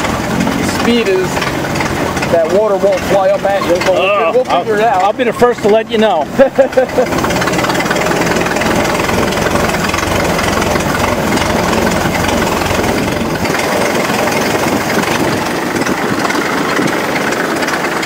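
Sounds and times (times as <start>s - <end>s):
engine rumbling through open exhaust: 0.0s - 18.0s.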